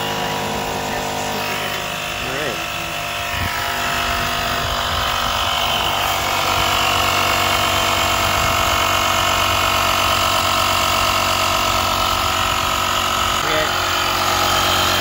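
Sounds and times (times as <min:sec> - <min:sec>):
air compressor humming and whining: 0:00.0 - 0:15.0.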